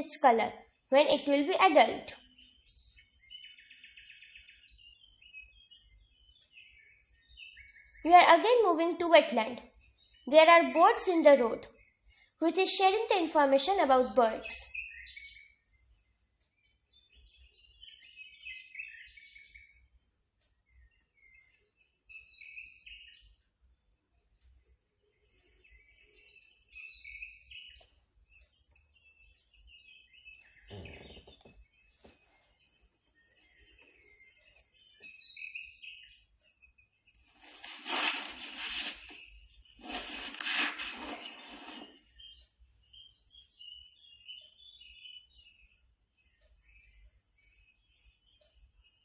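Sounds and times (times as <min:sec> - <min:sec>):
faint bird song: 0:00.0 - 0:49.0.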